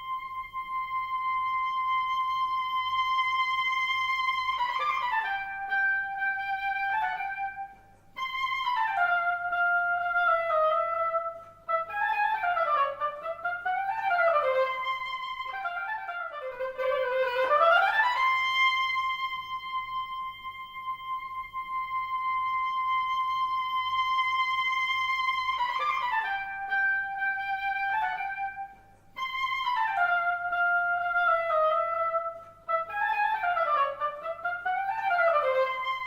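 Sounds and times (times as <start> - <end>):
oboe playing slow melody: 0.0 - 36.0.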